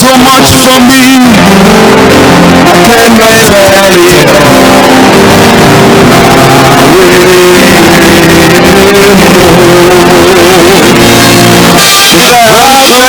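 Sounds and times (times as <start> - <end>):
person singing long notes: 0.0 - 13.0
sustained keyboard chords: 0.0 - 13.0.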